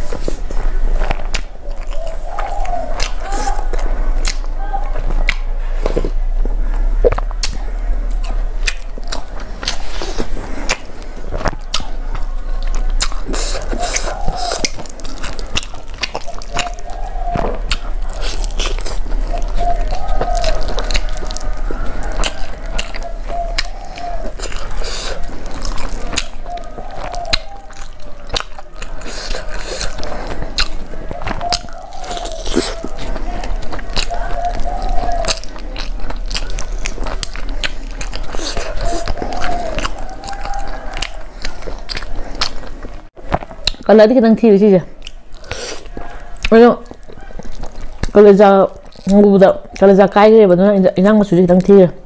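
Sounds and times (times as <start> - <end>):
wet chewing and crunches: 0.0 - 52.0.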